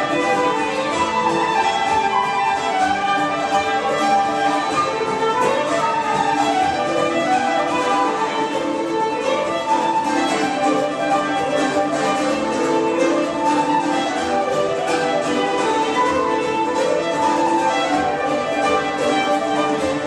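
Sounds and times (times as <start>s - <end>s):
bouzouki chords: 0.0s - 20.0s
flute and fiddle melody: 0.0s - 20.0s.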